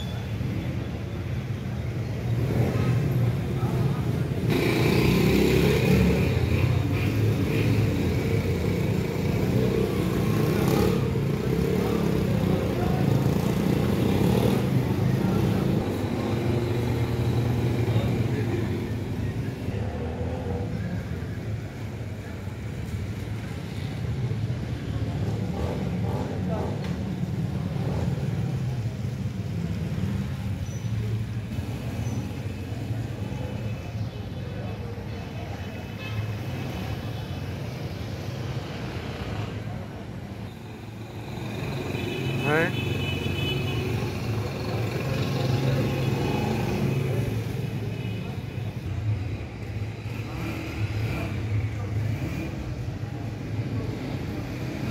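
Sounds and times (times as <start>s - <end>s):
motorcycles passing: 0.0s - 54.9s
traffic on wet road: 0.0s - 54.9s.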